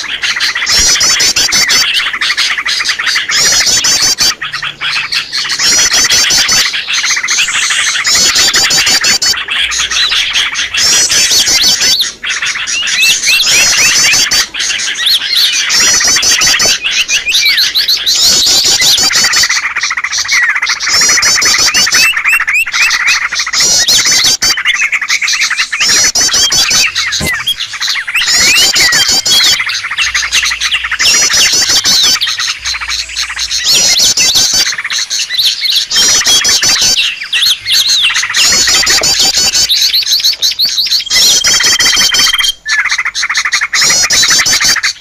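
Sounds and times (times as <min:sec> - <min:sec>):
rapid high bird trill: 0:00.0 - 0:45.0
small songbirds chirping: 0:00.0 - 0:45.0.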